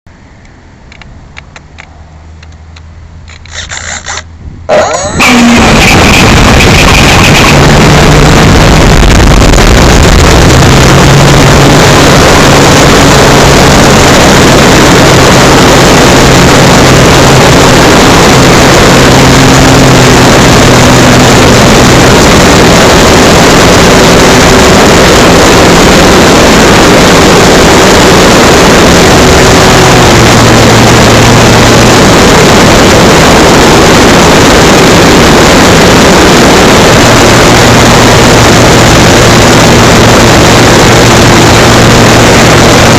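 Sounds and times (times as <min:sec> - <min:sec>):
wind rush: 0:03.1 - 0:42.9
model plane electric motor humming: 0:05.1 - 0:42.9.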